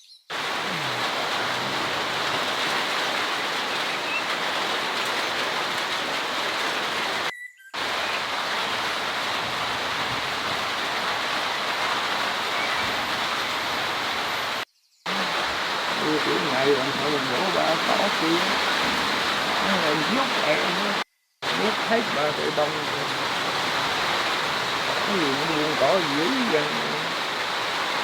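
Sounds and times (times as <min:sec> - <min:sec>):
heavy rain pouring: 0:00.3 - 0:28.0.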